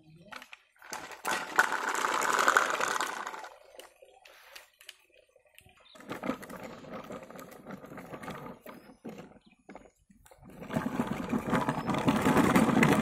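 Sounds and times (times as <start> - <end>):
plastic toy tractor rattling: 0.2 - 3.9, 5.9 - 13.0.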